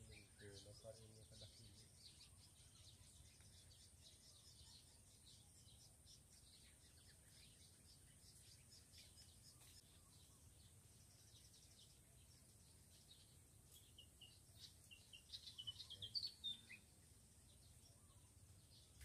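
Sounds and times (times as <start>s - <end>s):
rapid small chirping calls: 0.0s - 19.0s.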